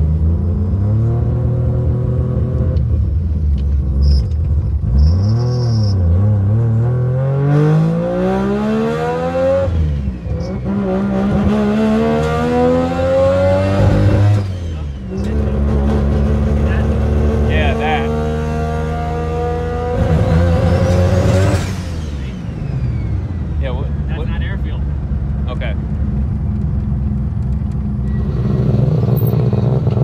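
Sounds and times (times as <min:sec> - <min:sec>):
rotary engine accelerating: 0:00.0 - 0:30.0.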